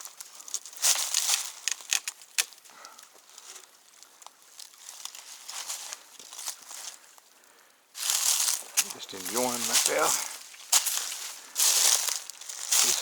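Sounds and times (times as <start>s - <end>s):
footsteps crunching dry leaves: 0.0s - 7.2s, 8.0s - 13.0s.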